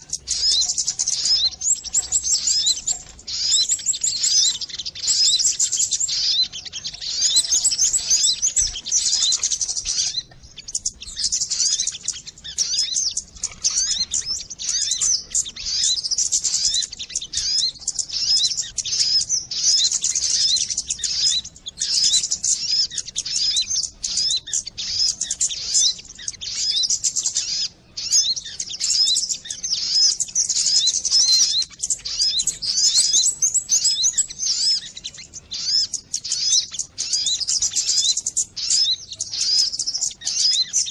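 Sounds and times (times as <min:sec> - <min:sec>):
high-pitched bird chirping trills: 0:00.0 - 0:40.9.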